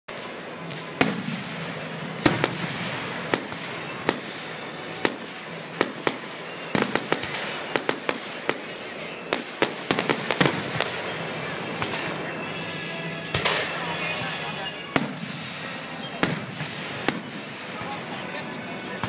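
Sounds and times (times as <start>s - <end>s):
fireworks bursting: 0.1s - 19.0s.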